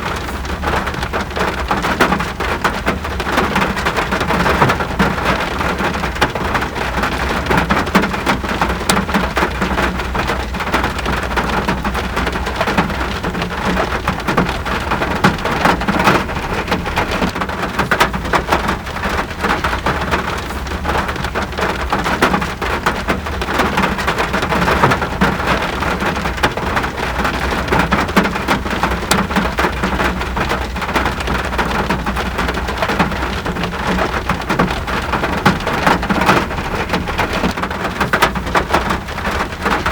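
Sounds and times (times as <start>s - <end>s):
raindrops tapping: 0.0s - 39.9s
steady rain rush: 0.0s - 39.9s.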